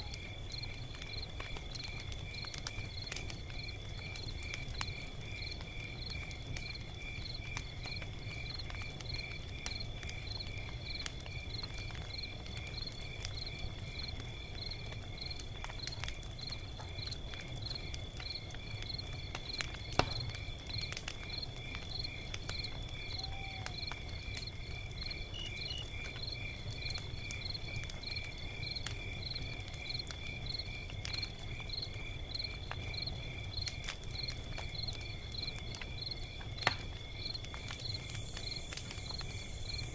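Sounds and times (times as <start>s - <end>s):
crickets chirping: 0.0s - 39.9s
log fire crackling and popping: 0.0s - 39.9s.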